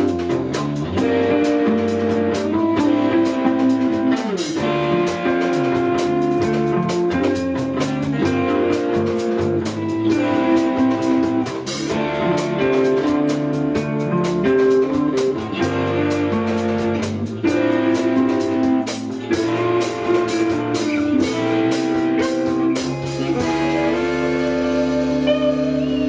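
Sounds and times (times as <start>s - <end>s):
guitar chords: 0.0s - 26.0s
steady drum beat: 0.0s - 26.0s.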